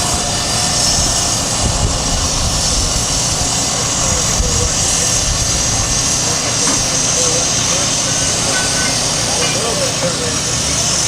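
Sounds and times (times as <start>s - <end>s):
machinery engine hissing and rumbling: 0.0s - 11.0s.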